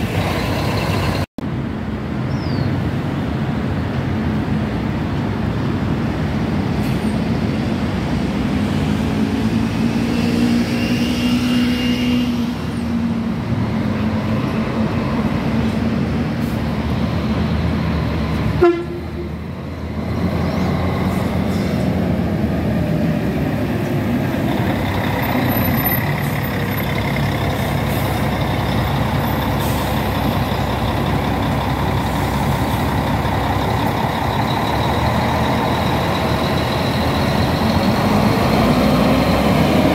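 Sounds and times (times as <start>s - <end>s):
bus diesel engine driving past: 0.0s - 39.9s.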